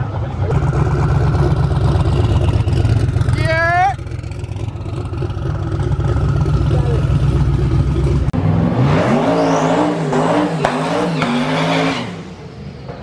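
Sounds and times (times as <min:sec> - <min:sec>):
car engine rumbling driving off: 0:00.0 - 0:13.0.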